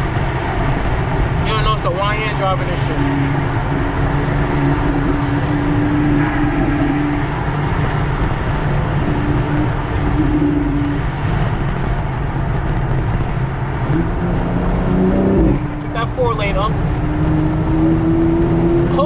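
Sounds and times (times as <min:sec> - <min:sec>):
car engine drone: 0:00.0 - 0:19.0
tyre and road noise: 0:00.0 - 0:19.0.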